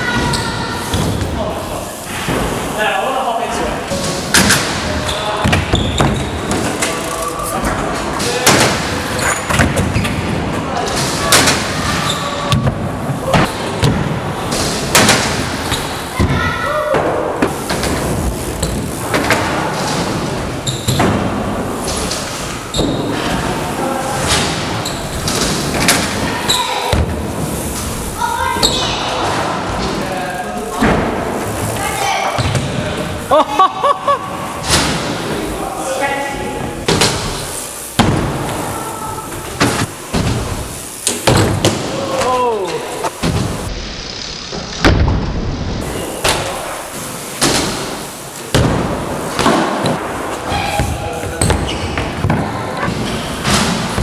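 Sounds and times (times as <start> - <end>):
bike tyres rolling on ramps: 0.0 - 33.4, 34.1 - 54.0
din of busy indoor park: 0.0 - 54.0
bike wheels thudding on ramps: 3.9 - 33.3, 36.8 - 54.0.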